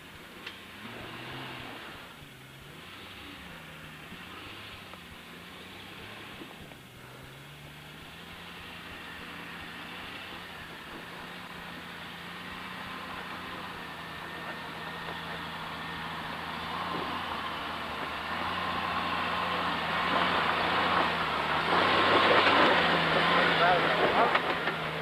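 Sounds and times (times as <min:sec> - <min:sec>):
car engine running at low speed: 0:00.0 - 0:25.0.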